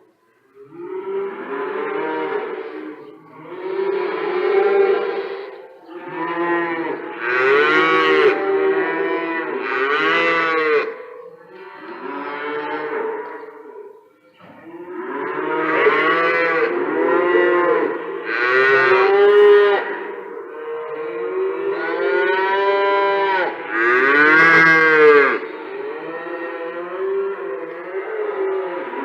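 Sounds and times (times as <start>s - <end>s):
cattle mooing: 0.8s - 13.6s, 14.6s - 29.0s.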